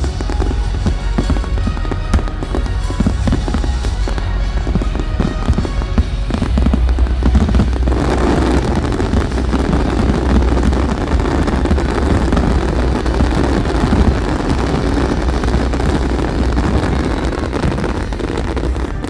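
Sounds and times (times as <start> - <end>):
fireworks barrage rumbling: 0.0 - 19.0
wind buffeting microphone: 0.0 - 19.0.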